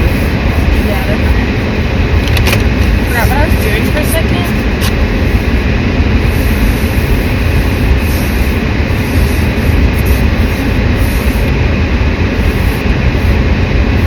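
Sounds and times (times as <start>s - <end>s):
car driving rumble from inside: 0.0s - 14.0s.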